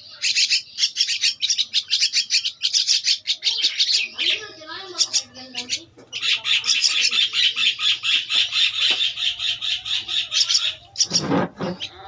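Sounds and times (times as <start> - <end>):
bird chicks begging calls: 0.0 - 12.0.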